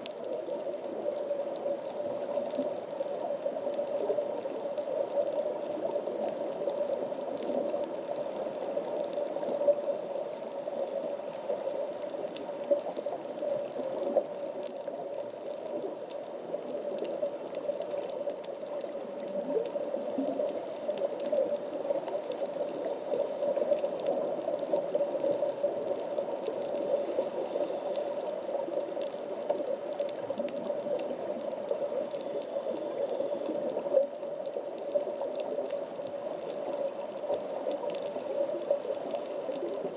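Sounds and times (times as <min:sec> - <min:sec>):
faint underwater clicks: 0:00.0 - 0:39.9
muffled underwater water noise: 0:00.0 - 0:39.9.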